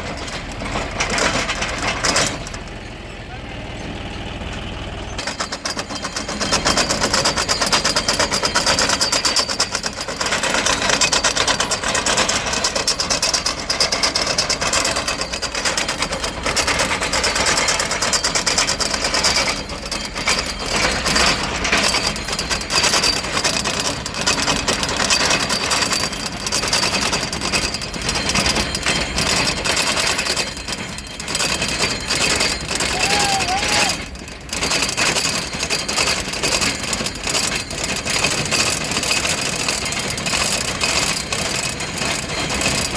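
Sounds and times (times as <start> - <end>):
fast mechanical clatter: 0.0 - 3.0, 5.1 - 42.9
tractor diesel engine under load: 0.0 - 42.9.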